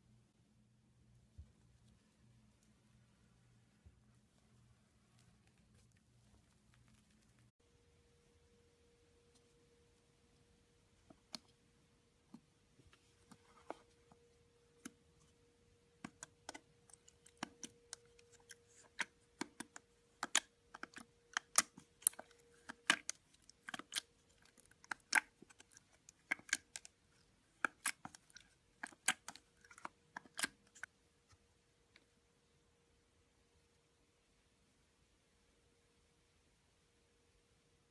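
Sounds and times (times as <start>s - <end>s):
faint steady hum: 0.0s - 37.9s.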